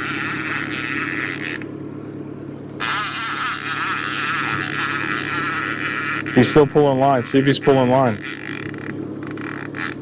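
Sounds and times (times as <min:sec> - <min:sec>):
fishing reel drag buzzing: 0:00.0 - 0:01.8, 0:02.8 - 0:10.0
boat motor humming: 0:00.0 - 0:10.0.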